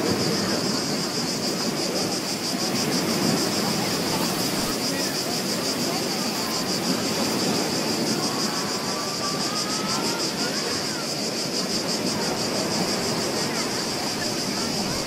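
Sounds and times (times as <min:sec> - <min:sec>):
ocean waves on shore: 0:00.0 - 0:15.0.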